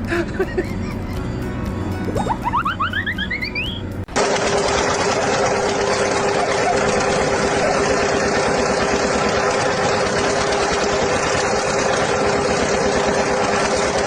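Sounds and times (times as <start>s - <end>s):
machine motor humming and pulsing: 2.2s - 14.0s.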